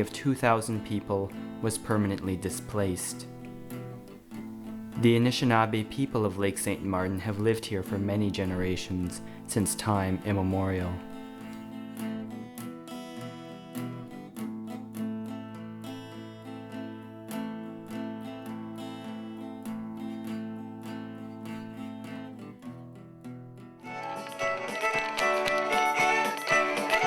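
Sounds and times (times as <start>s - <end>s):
plucked acoustic guitar music: 0.0s - 27.0s.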